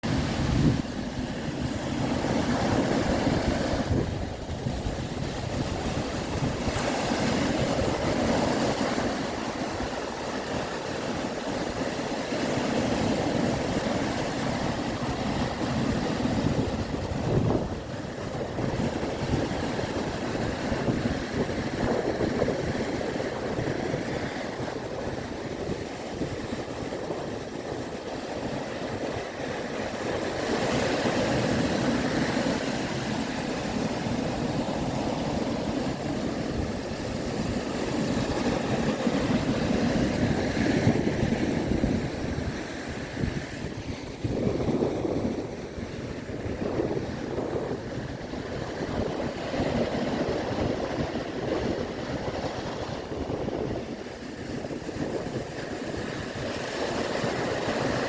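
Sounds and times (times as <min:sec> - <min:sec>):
sea waves washing in: 0:00.0 - 0:58.0
wind buffeting microphone: 0:00.0 - 0:58.0.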